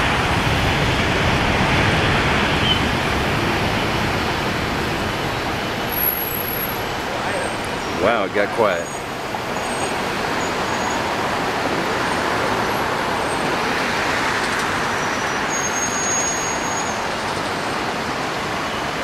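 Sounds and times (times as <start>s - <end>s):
jet engines rushing at takeoff: 0.0s - 19.0s.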